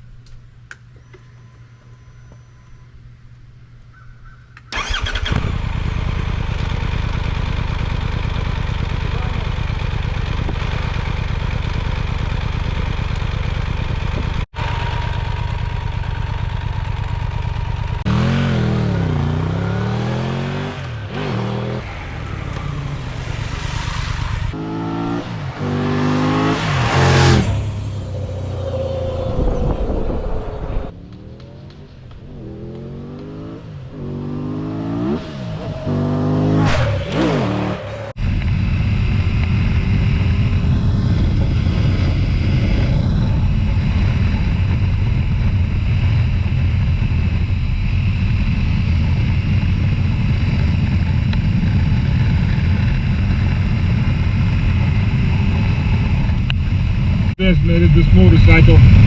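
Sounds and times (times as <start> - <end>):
motorcycle engine idling and revving: 3.9 - 59.0.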